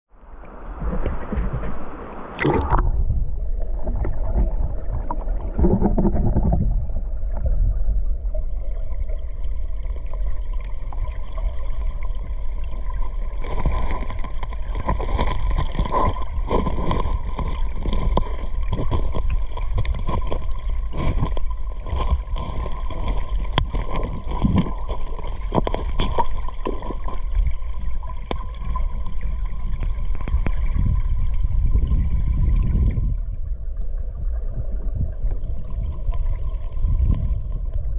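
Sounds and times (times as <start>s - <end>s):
underwater flowing water rumble: 0.1s - 37.9s.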